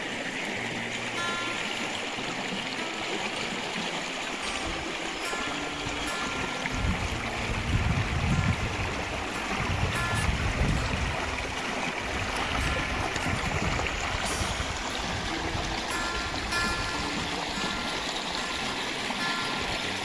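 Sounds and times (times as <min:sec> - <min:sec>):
river water running over rocks: 0:00.0 - 0:20.0.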